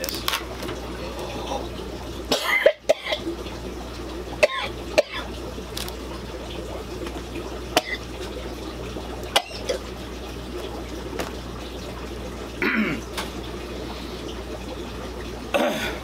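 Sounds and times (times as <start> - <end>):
aquarium water trickling and bubbling: 0.0 - 16.0
low electrical hum: 0.0 - 16.0.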